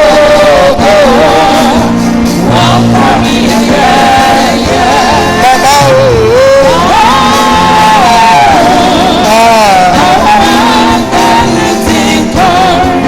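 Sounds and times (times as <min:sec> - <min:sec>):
gospel instrumental accompaniment: 0:00.0 - 0:13.0.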